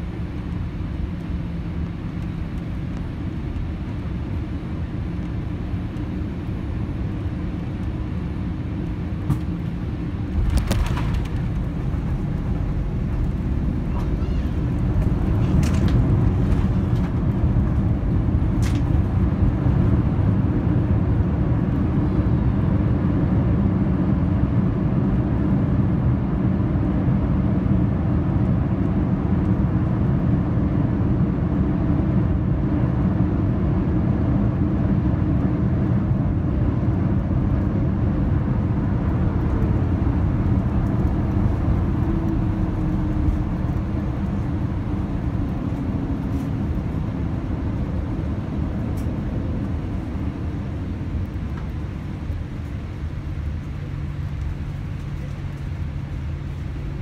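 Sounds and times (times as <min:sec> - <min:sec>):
jet engines in reverse thrust: 0:00.0 - 0:57.0
wheels rumbling on runway: 0:00.0 - 0:57.0.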